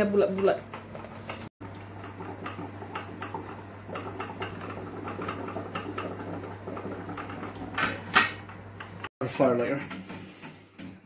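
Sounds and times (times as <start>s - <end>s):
pot simmering and bubbling: 0.0s - 9.1s.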